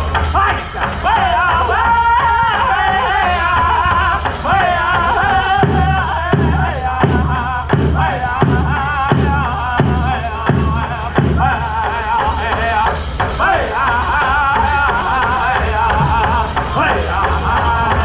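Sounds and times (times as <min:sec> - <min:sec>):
big drum steady beats: 0:00.0 - 0:18.0
drum group singing high wavering voices: 0:00.0 - 0:18.0.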